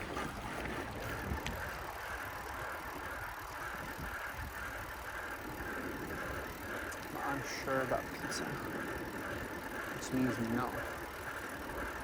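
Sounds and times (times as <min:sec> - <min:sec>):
bicycle road rumble: 0:00.0 - 0:12.0.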